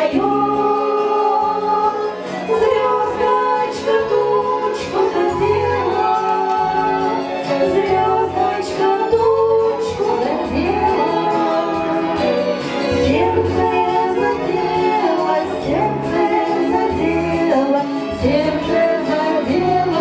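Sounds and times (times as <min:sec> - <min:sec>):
two women singing in harmony: 0:00.0 - 0:20.0.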